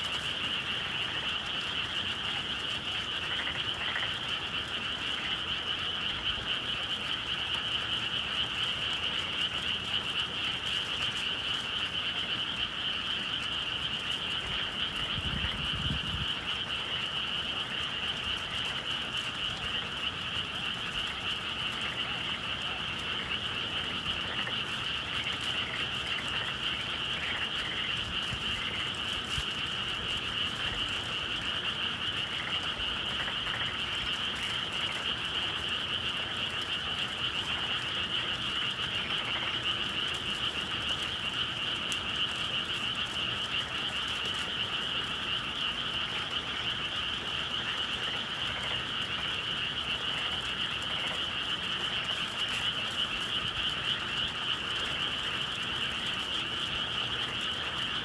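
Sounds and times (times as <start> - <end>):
chorus of frogs trilling: 0.0 - 58.0.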